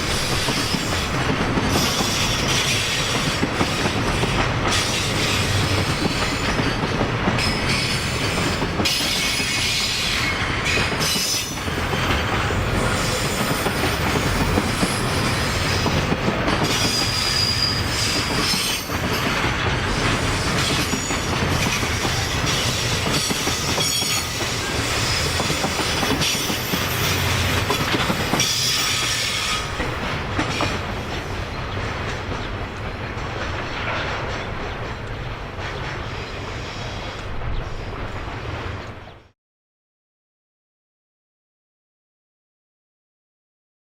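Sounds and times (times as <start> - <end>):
train wheels clickety-clack: 0.0 - 38.6.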